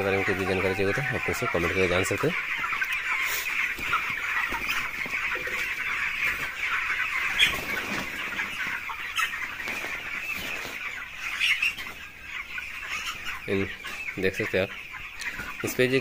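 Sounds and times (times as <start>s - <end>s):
chicks cheeping: 0.0s - 16.0s.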